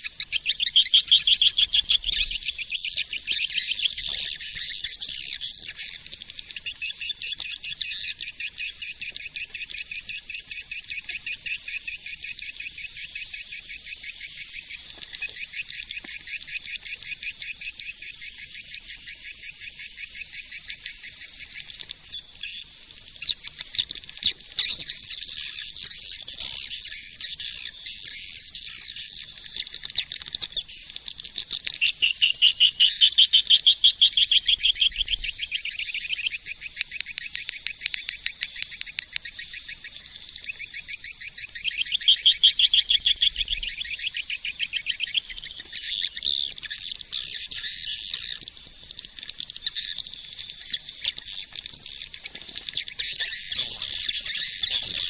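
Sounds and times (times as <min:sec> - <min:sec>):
high-pitched bird chirps: 0:00.0 - 0:55.0.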